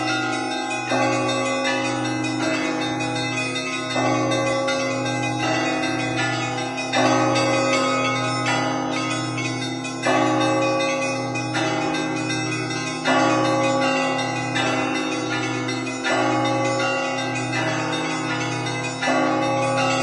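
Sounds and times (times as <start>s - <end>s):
small church bells pattern: 0.0s - 20.0s.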